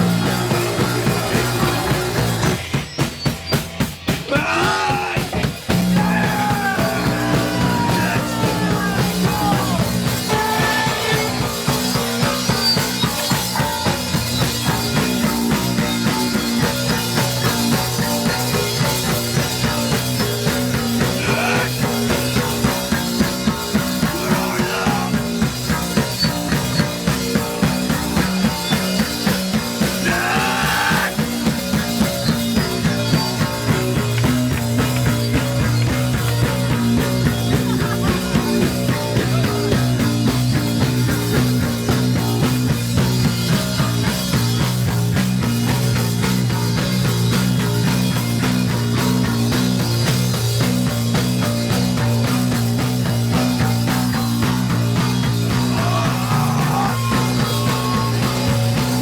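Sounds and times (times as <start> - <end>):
distorted guitar and bass: 0.0 - 59.0
fast drum hits: 0.0 - 59.0.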